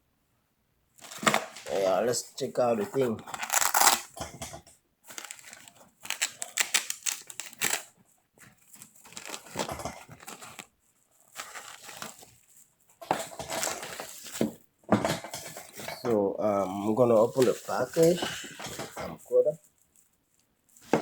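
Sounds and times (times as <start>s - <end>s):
packaging crinkling and rustling: 1.0s - 4.4s, 5.0s - 21.0s.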